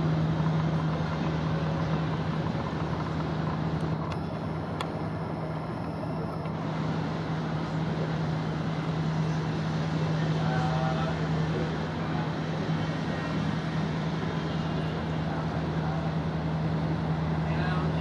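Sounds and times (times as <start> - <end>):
low hum: 0.0 - 18.0
road traffic noise: 0.0 - 18.0.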